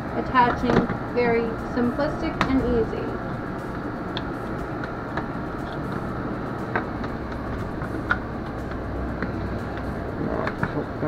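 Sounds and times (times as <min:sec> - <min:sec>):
portable air conditioner running: 0:00.0 - 0:11.0.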